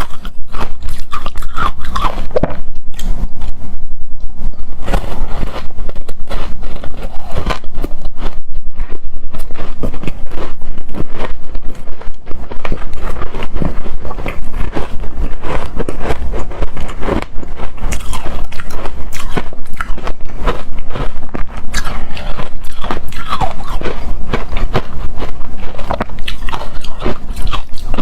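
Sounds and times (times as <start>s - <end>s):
chewing shaved ice crunching: 0.0s - 3.5s, 4.8s - 28.0s.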